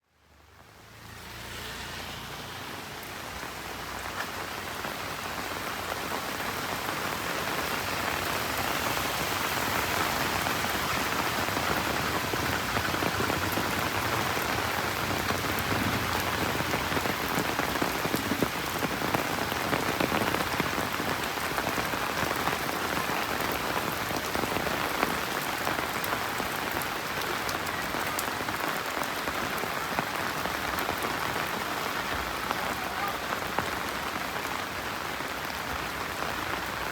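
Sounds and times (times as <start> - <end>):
rain pattering on surfaces: 0.0 - 36.9.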